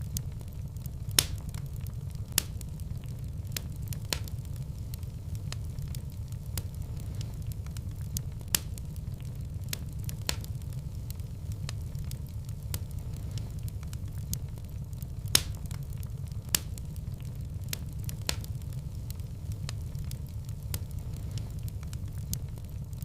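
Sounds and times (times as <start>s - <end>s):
fire low rumble: 0.0s - 23.0s
wood fire crackling and popping: 0.0s - 23.0s.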